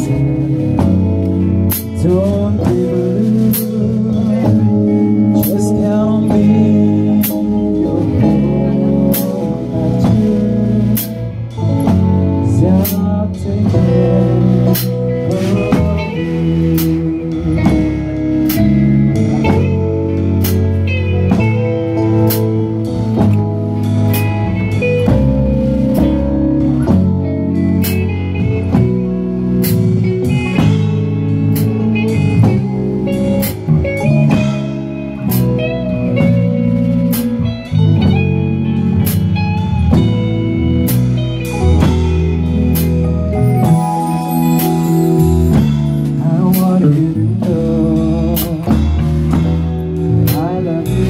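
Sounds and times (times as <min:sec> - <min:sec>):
live band playing: 0:00.0 - 0:51.0.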